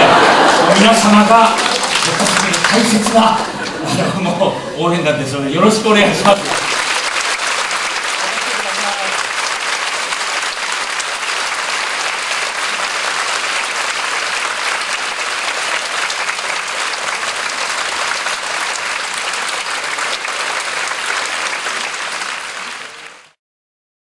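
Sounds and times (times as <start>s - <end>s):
audience applauding: 0.0s - 4.0s, 5.7s - 23.4s.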